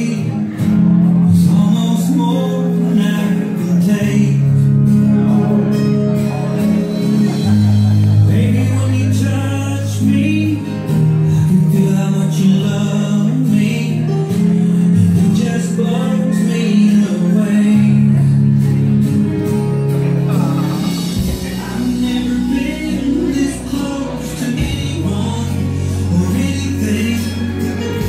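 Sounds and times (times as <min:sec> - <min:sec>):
guitar: 0:00.0 - 0:28.0
person singing: 0:00.0 - 0:28.0.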